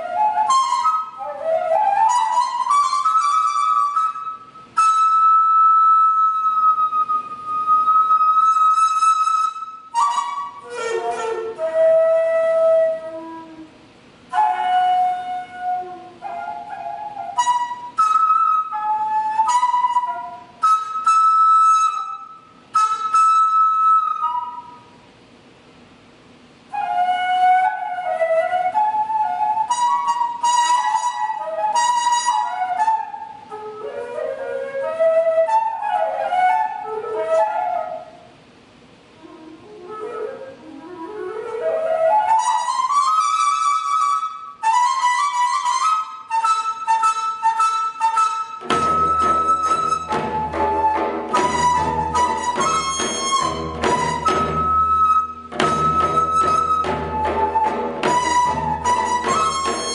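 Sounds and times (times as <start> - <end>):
bamboo flute slow melody: 0.0 - 25.1, 26.5 - 59.9.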